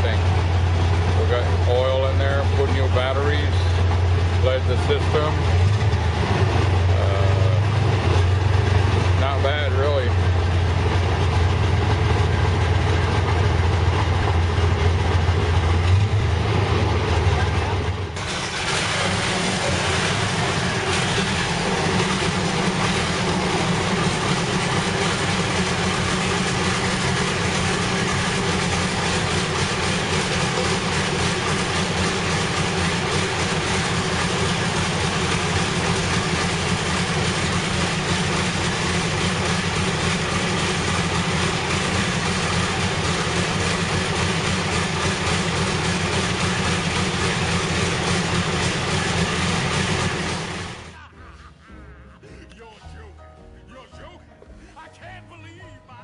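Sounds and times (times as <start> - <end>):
tank engine idling: 0.0 - 52.1.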